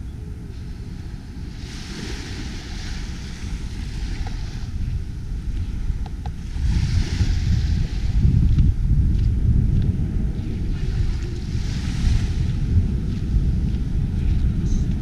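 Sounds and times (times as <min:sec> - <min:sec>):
wind rumbling on microphone: 0:00.0 - 0:15.0
small waves washing on sand: 0:00.4 - 0:15.0.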